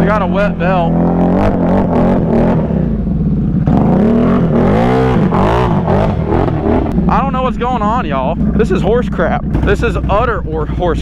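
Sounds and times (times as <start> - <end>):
atv engine revving: 0.0 - 11.0.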